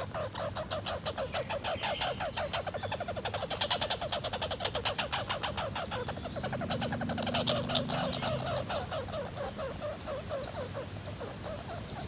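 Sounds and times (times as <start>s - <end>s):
squirrel chattering rattle: 0.0s - 12.0s.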